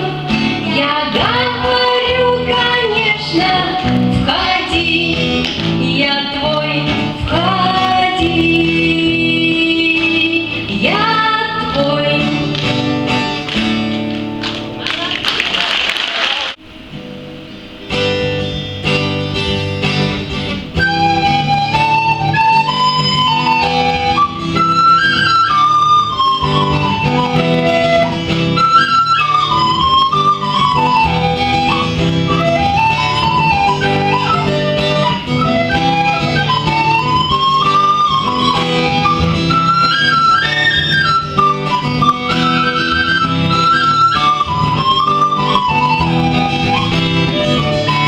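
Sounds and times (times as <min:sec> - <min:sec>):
melody over plucked guitar: 0:00.0 - 0:14.8, 0:16.8 - 0:48.0.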